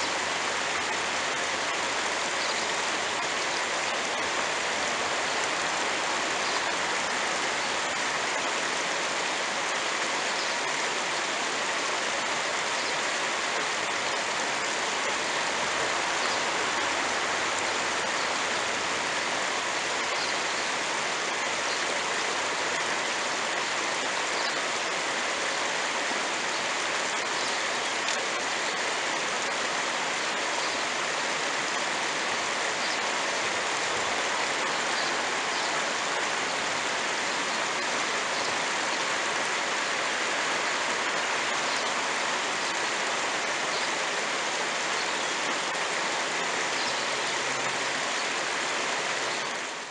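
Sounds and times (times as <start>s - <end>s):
flowing creek water: 0.0s - 49.9s.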